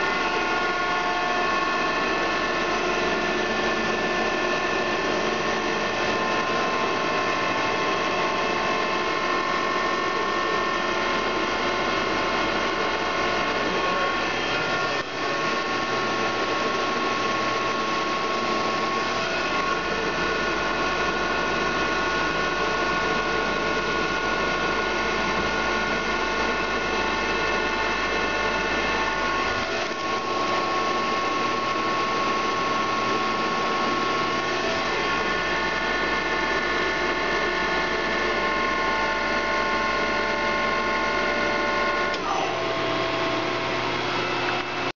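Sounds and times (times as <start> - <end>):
drilling machine humming and whining: 0.0 - 44.9.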